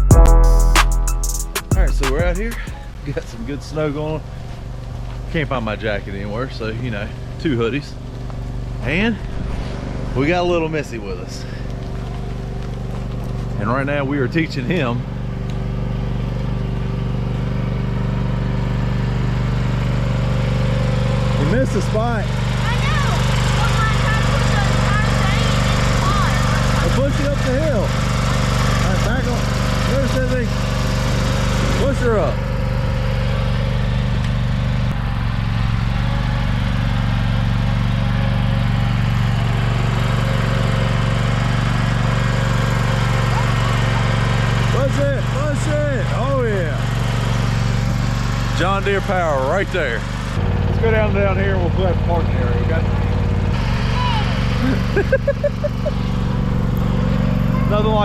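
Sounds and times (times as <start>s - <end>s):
garden tractor engine running: 1.7s - 58.0s.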